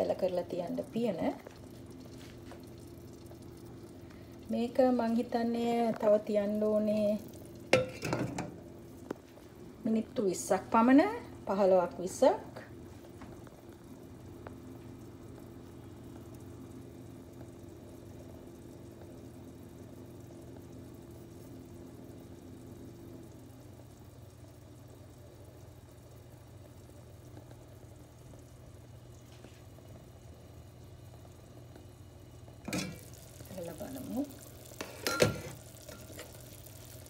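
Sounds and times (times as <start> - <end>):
curry bubbling in pot: 0.0 - 37.0.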